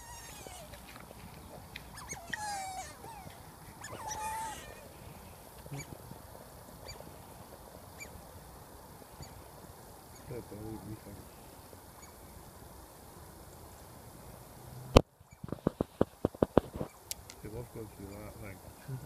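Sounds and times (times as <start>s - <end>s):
otters calling: 0.0s - 12.4s, 15.2s - 19.0s.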